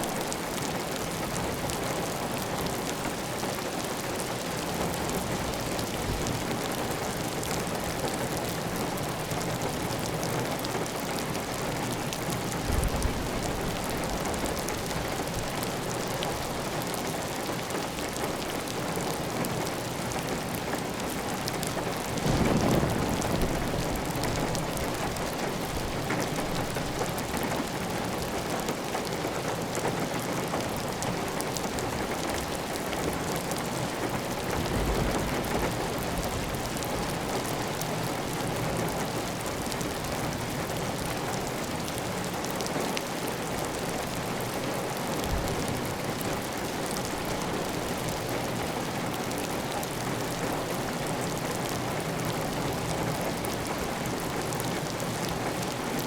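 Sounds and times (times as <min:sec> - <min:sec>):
heavy rain on tile roof: 0:00.0 - 0:56.0.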